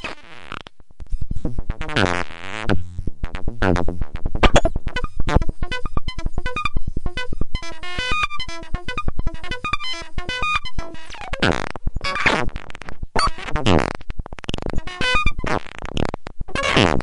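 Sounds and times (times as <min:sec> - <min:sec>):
synthesizer electronic blips: 0:00.0 - 0:17.0.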